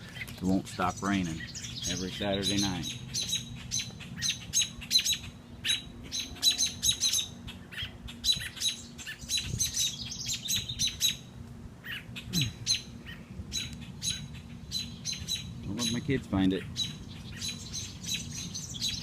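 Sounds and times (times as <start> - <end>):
small birds chirping rapidly: 0.0 - 19.0.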